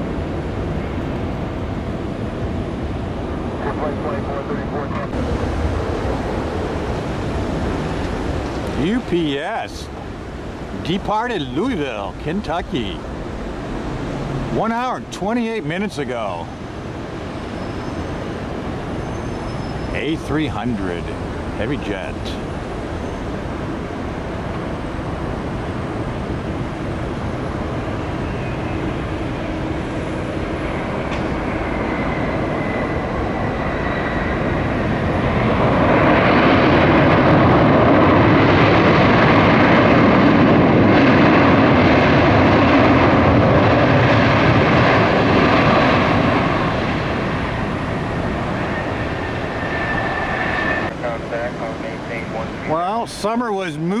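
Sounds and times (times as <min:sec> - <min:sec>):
jet engine with whine: 0:00.0 - 0:54.0.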